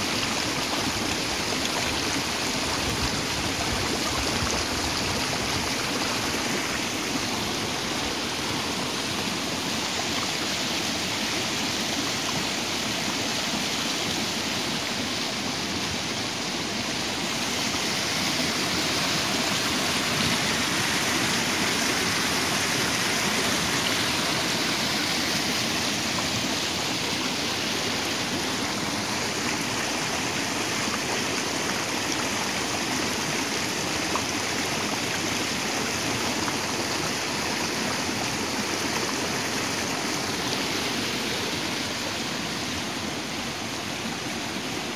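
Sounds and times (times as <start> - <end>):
stream splashing over rocks: 0.0 - 44.9.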